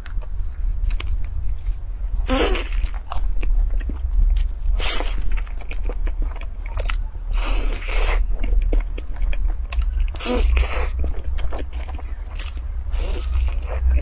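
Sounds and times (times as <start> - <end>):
biting and chewing bun: 0.0 - 14.0
steady low hum: 0.0 - 14.0.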